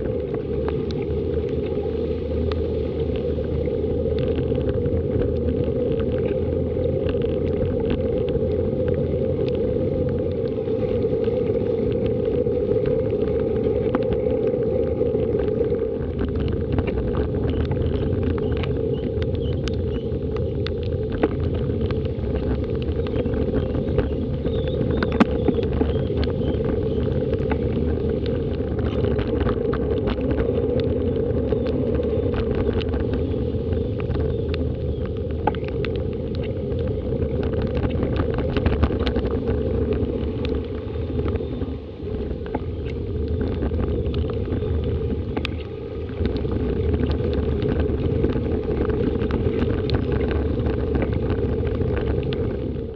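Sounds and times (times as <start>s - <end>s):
muffled rumble: 0.0s - 52.9s
wind on microphone: 0.0s - 52.9s.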